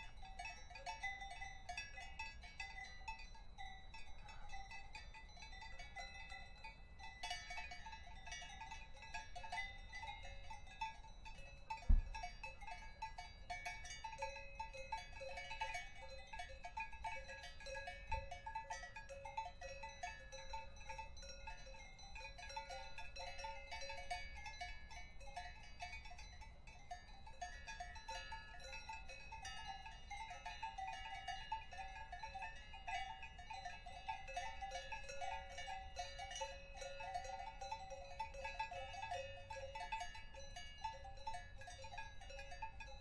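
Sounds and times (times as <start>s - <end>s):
cowbells clanking: 0.0s - 43.0s.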